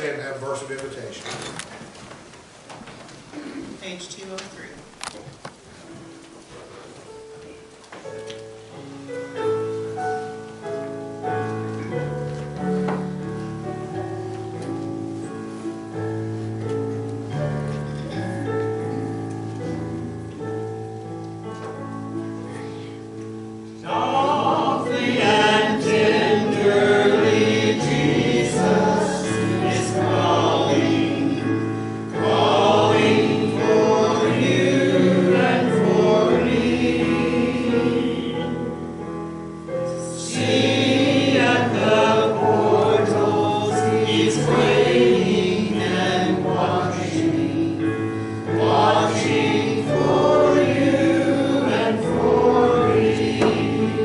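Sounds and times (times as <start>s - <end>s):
keyboard accompaniment: 5.8s - 54.0s
congregation singing a hymn: 9.1s - 54.0s.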